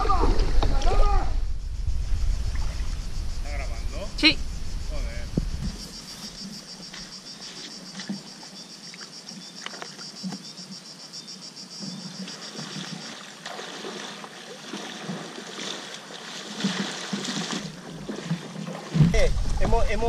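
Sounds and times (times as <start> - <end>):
wading through shallow water: 0.0 - 10.6, 11.8 - 20.0
insect chirping in fast pulse: 0.0 - 20.0.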